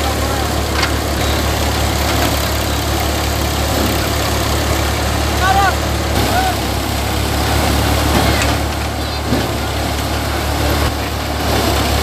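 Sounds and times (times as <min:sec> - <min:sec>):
thresher drum drone: 0:00.0 - 0:12.0
tractor diesel engine: 0:00.0 - 0:12.0.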